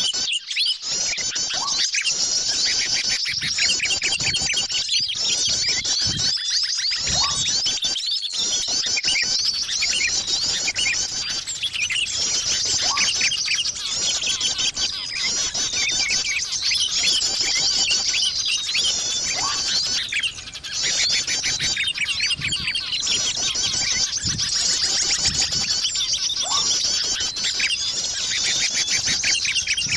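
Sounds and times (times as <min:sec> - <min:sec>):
small birds twittering: 0:00.0 - 0:29.9.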